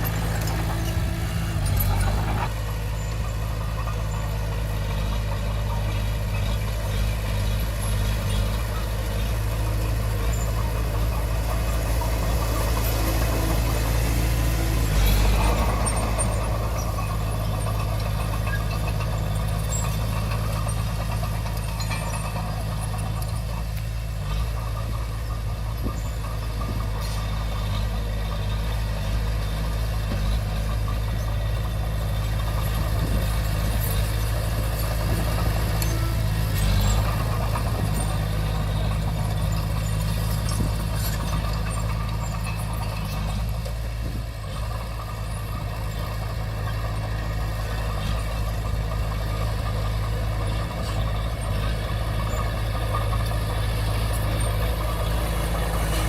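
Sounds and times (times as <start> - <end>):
light metal clanks and knocks: 0.0 - 28.7, 29.4 - 56.0
bulldozer diesel engine running: 0.0 - 56.0.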